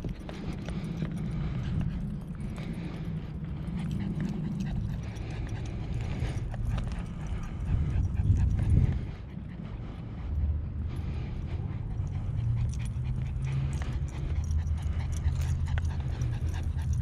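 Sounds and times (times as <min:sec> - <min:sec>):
footsteps on asphalt: 0:00.0 - 0:17.0.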